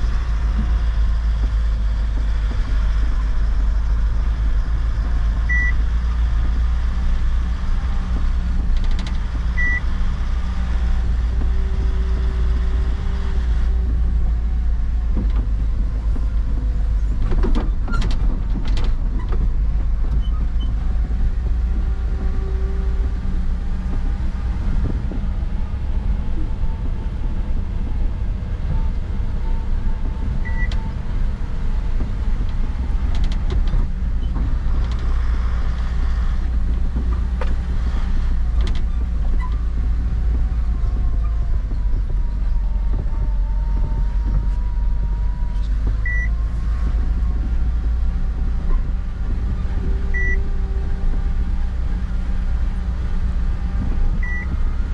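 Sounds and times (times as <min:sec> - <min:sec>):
truck engine rumbling: 0:00.0 - 0:54.9.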